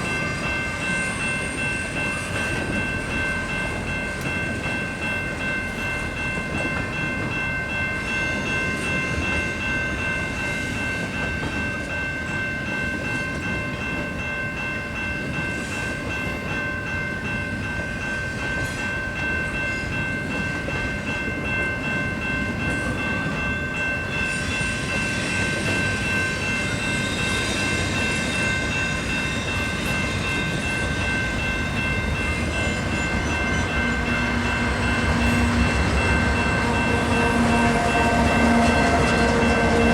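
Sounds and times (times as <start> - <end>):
freight train rumbling on rails: 0.0 - 39.9.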